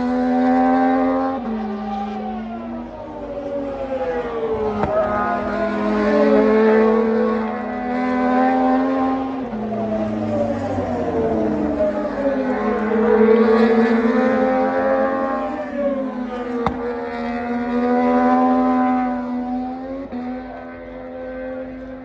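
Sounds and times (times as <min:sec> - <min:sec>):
race bike engines howling: 0:00.0 - 0:22.0.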